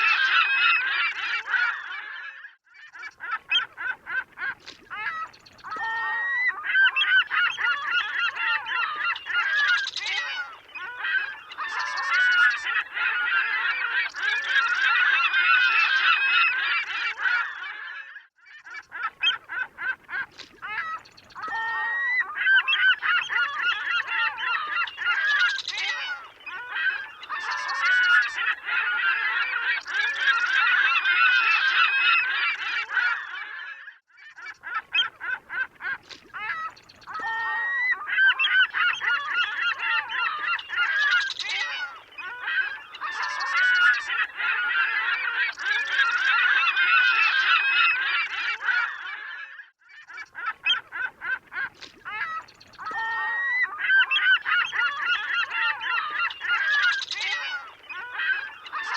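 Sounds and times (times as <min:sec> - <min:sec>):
seagulls calling: 0:00.0 - 0:58.9.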